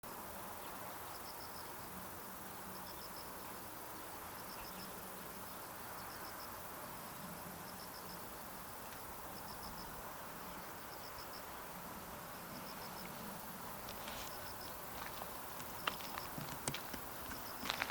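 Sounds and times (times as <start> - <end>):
steady background noise: 0.0 - 17.9
insect chirping trills: 0.1 - 17.9.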